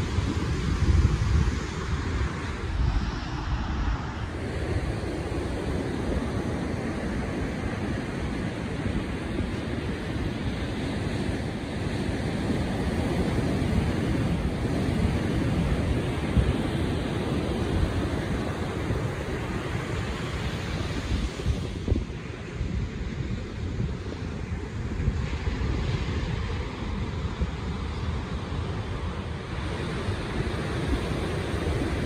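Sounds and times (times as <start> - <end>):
surf rushing: 0.0 - 32.0
wind buffeting microphone: 0.0 - 32.0.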